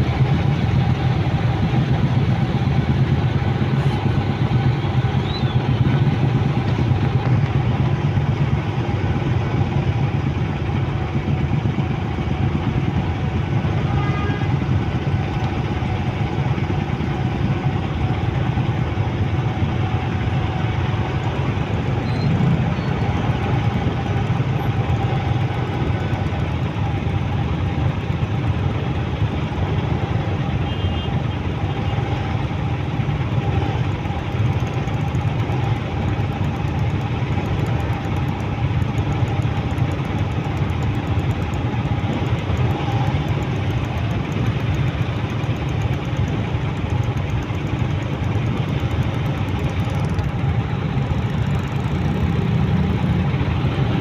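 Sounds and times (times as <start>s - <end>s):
motorcycle and car engines idling: 0.0s - 54.0s.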